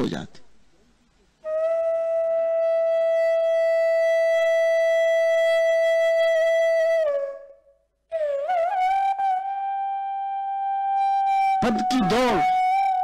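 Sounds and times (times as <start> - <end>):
wind instrument holding notes: 1.4 - 13.0.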